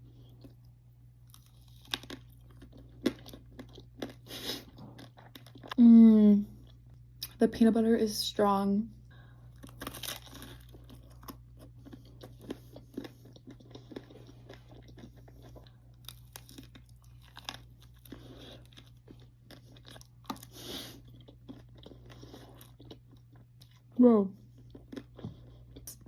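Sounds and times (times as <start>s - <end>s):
chewing and crunching ice cream cone: 0.0s - 5.8s, 9.4s - 26.0s.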